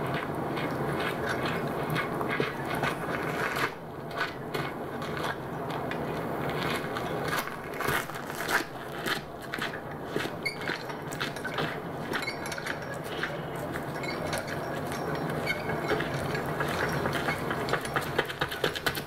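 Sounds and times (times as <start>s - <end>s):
steady noisy background: 0.0s - 19.0s.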